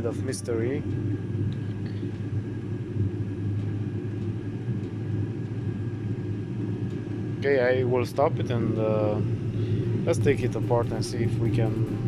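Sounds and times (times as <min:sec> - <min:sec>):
air heater humming with whine: 0:00.0 - 0:12.0.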